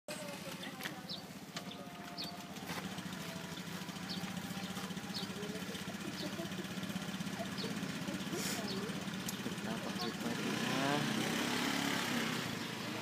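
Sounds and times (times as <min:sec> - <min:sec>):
engine idling: 0:00.1 - 0:11.1.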